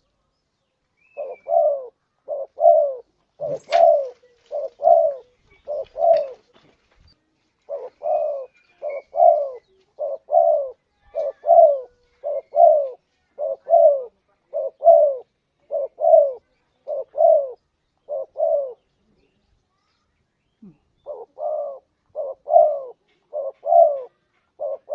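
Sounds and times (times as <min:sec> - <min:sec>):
dove cooing: 0:01.1 - 0:06.6, 0:07.6 - 0:18.9, 0:20.6 - 0:24.9.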